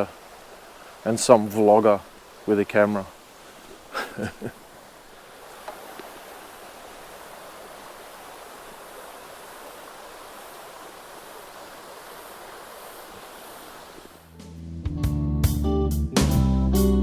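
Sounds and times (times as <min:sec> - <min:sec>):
creek water running over rocks: 0:00.0 - 0:14.4.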